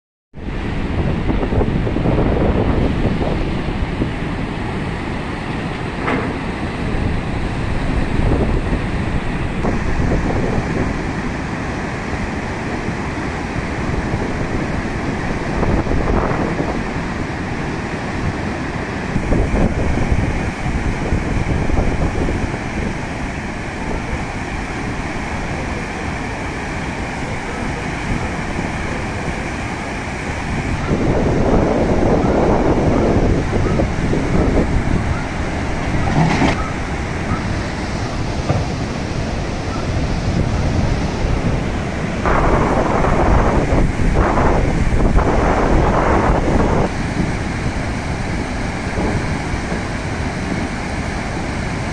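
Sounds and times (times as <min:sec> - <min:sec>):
floodwater rushing and churning: 0:00.4 - 0:51.9
wind buffeting microphone: 0:00.4 - 0:51.9.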